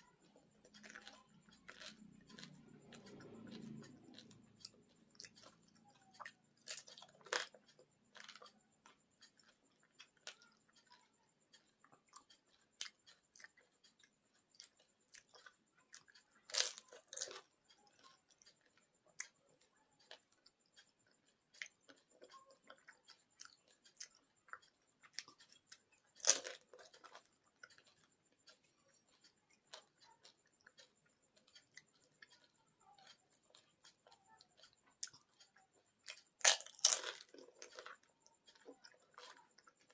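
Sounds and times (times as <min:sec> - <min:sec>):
crisp food crunching: 0:00.0 - 0:19.4, 0:20.0 - 0:39.9
chewing: 0:00.0 - 0:39.9.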